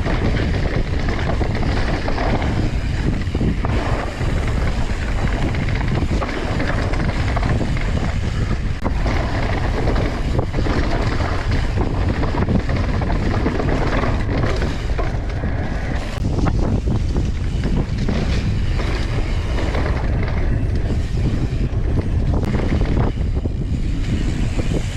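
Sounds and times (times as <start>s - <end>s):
bike rattling and clicking: 0.0s - 24.9s
tyres rolling over dirt: 0.0s - 24.9s
wind rushing over microphone: 0.0s - 24.9s.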